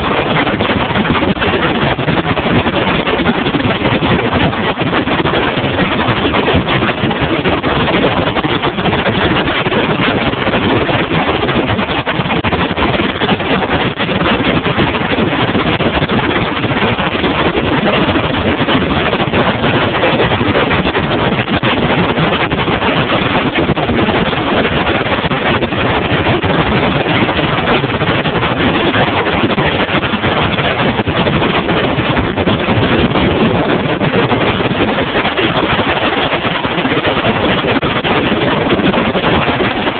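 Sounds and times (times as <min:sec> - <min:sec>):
boat motor and water rush: 0:00.0 - 0:39.9.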